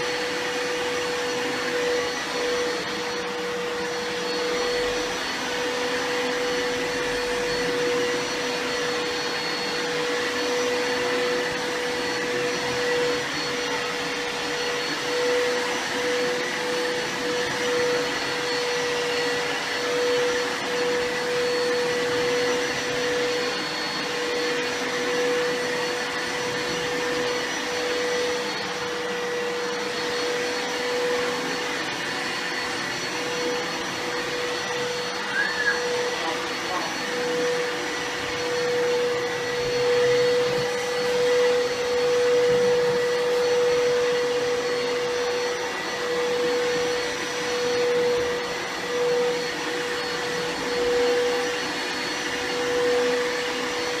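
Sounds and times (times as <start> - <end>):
carpet cleaner motor whining: 0.0 - 54.0.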